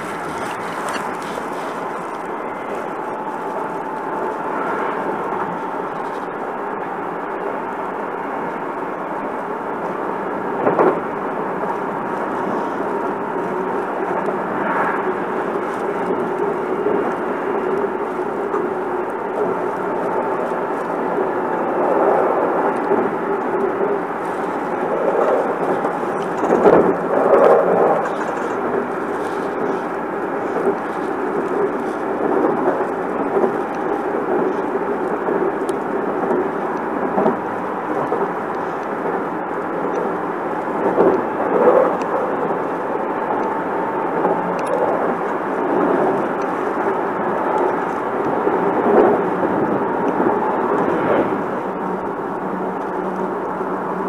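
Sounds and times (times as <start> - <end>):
train wheels and motors rumbling: 0.0 - 54.0.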